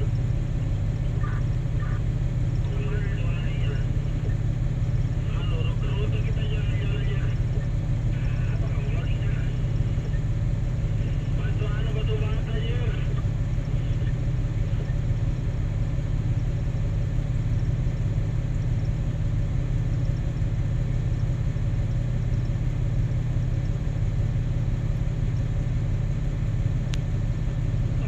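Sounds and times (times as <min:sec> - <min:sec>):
heavy diesel engines droning: 0:00.0 - 0:28.0.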